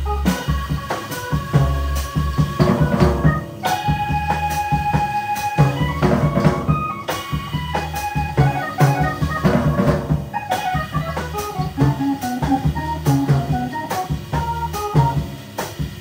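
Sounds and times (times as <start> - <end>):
drum kit beat: 0.0 - 16.0
guitar: 0.0 - 16.0
live band playing jazz: 0.0 - 16.0.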